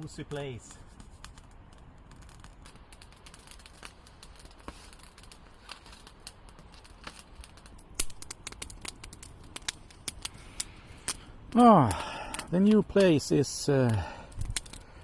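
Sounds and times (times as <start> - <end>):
campfire crackling and popping: 0.0 - 15.0
faint steady hiss: 0.0 - 15.0.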